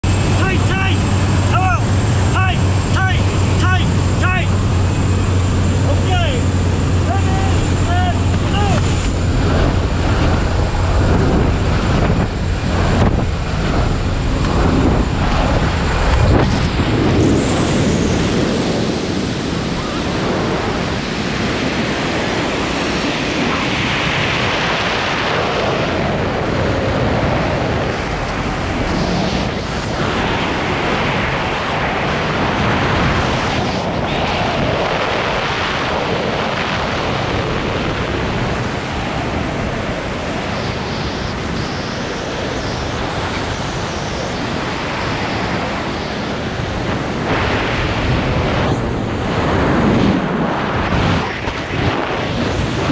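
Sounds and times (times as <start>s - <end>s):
loud wind noise on microphone: 0.0s - 52.9s.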